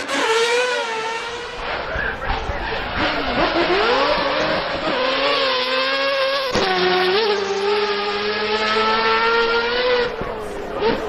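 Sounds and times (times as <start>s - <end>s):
rotary engine revving high: 0.0s - 11.0s.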